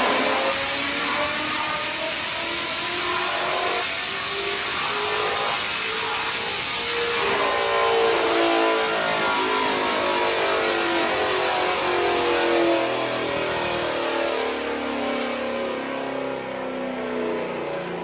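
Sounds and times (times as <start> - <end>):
car engine revving high: 0.0 - 18.0.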